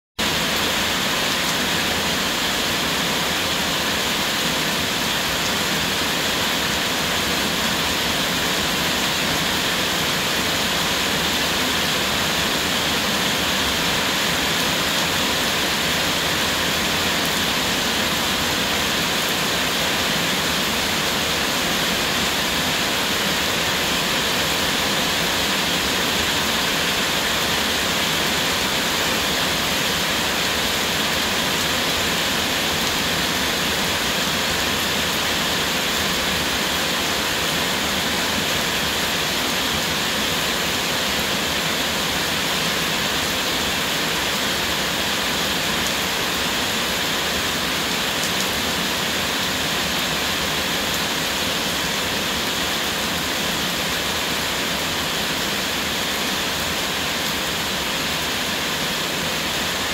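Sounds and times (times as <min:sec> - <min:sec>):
heavy rain pouring: 0:00.2 - 0:59.9.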